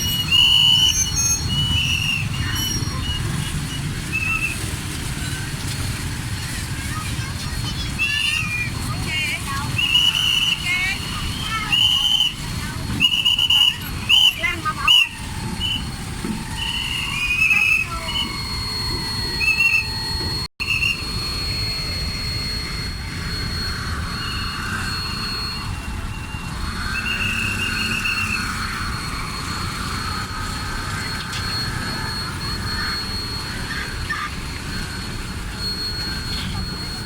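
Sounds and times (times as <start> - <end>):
ferry engine rumble: 0.0 - 37.0
high whistle-like tones: 0.0 - 37.0.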